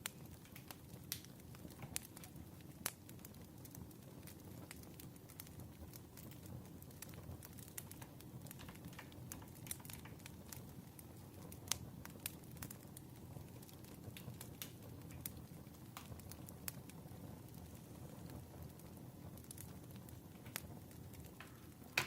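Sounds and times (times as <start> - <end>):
fire popping and snapping: 0.0 - 22.0
wood fire crackling: 0.0 - 22.0.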